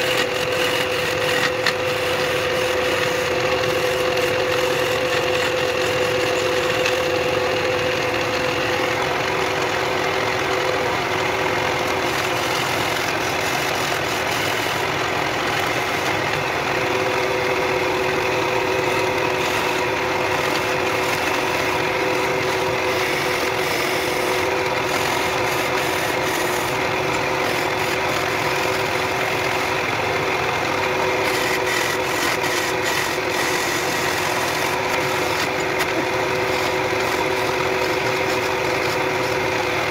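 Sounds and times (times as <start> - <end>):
chisel scraping spinning wood: 0.0 - 39.9
wood lathe motor hum: 0.0 - 39.9.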